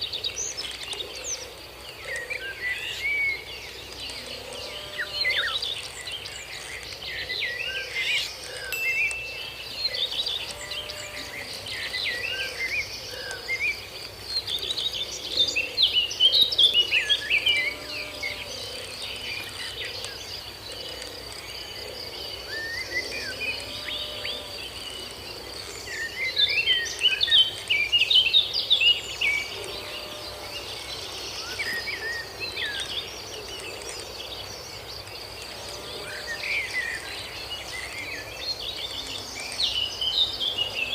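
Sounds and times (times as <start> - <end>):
birds chirping: 0.0 - 40.9
high insect drone: 0.0 - 40.9.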